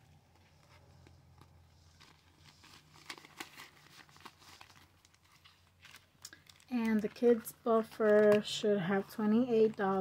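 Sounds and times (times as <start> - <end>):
paper cash and envelopes rustling: 0.0 - 10.0.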